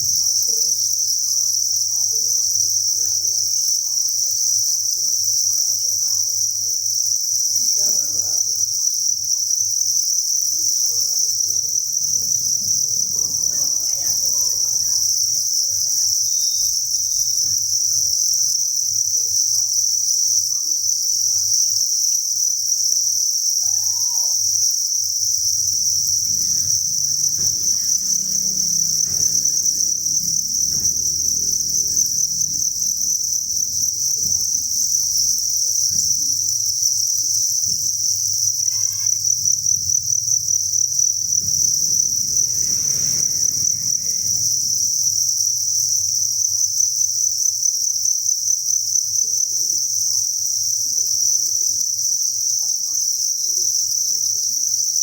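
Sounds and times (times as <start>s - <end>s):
crickets chirping chorus: 0.0s - 55.0s.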